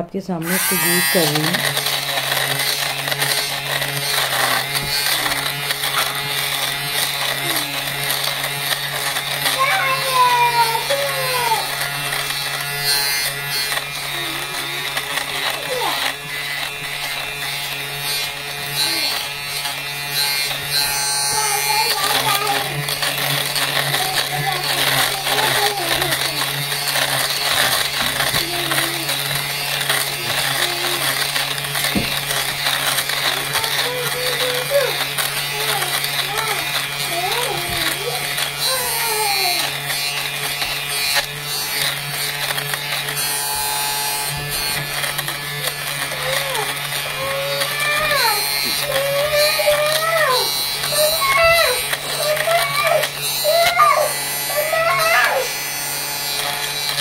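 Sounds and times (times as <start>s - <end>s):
lint remover motor humming: 0.0s - 57.0s.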